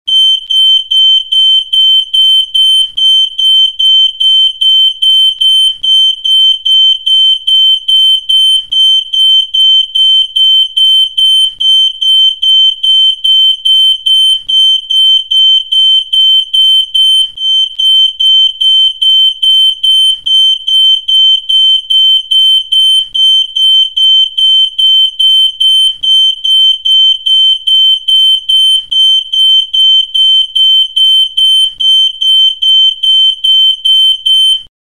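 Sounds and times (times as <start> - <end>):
electronic alarm beeping: 0.1 - 34.7.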